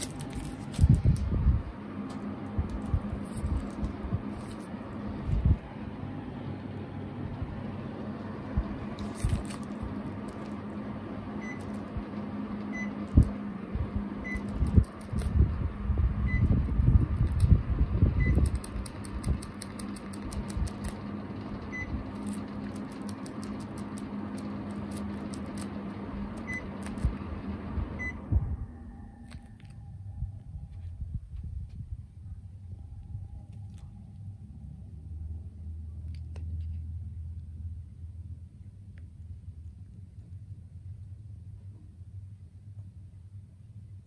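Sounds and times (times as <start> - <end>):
air conditioner fan hum: 0.0 - 44.0.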